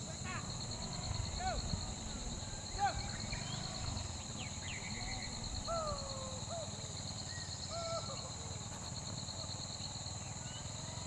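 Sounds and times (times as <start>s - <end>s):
whistled bird calls: 0.0s - 9.0s
insects buzzing drone: 0.0s - 11.0s.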